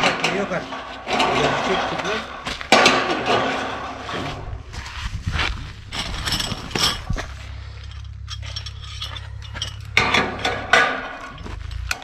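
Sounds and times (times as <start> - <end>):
metal clinking and rattling: 0.0 - 4.5, 5.8 - 12.0
steady low hum: 0.0 - 12.0.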